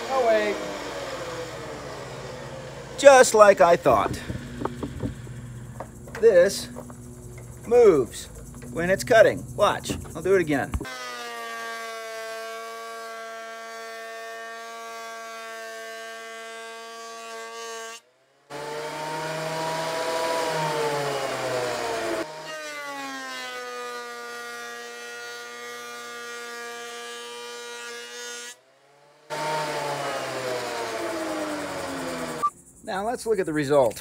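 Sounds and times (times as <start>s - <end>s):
board being planed: 0.0s - 6.9s, 9.8s - 32.5s
thickness planer motor whine: 0.0s - 32.5s.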